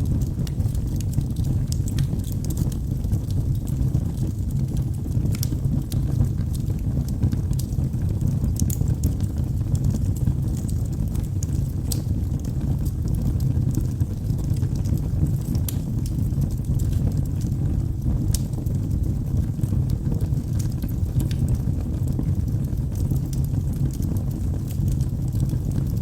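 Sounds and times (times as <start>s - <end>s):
fire flame rushing: 0.0s - 26.0s
wood crackling and popping: 0.0s - 26.0s.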